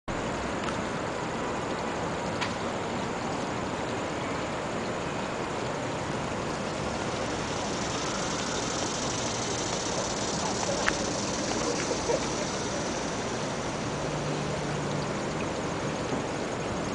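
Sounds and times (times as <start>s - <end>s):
fountain splashing into basin: 0.1s - 16.9s.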